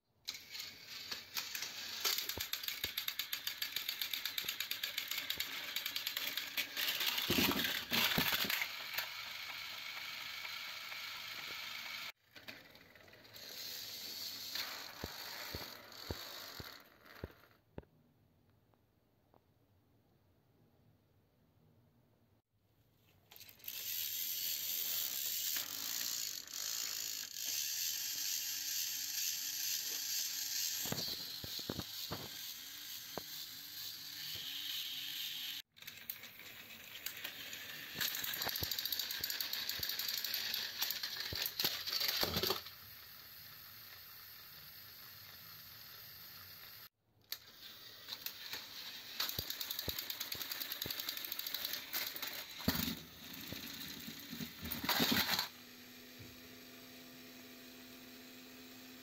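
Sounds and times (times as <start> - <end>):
toy train motors whirring: 0.2 - 17.6, 23.3 - 59.0.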